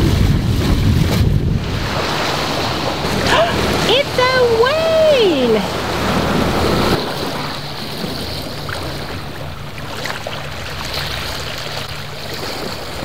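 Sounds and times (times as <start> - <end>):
water rushing along hull: 0.0 - 13.0.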